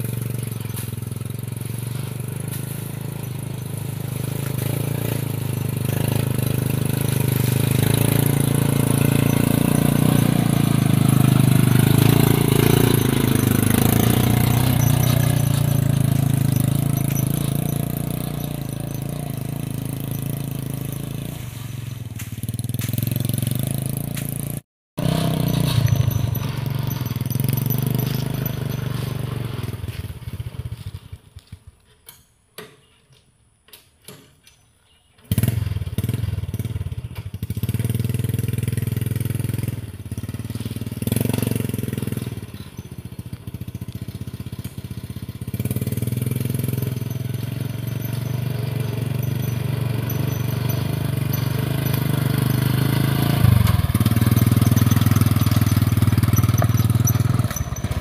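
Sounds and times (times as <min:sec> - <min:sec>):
motorcycle engine under load: 0:00.0 - 0:58.0.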